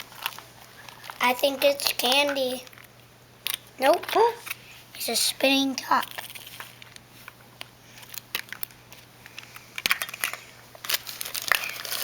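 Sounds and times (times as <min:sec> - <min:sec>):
crinkling: 0:00.0 - 0:04.7, 0:05.9 - 0:12.0.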